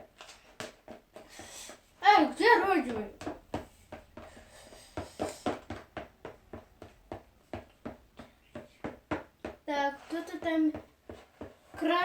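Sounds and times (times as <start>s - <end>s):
slime being stirred: 0.0s - 8.5s, 9.7s - 12.0s.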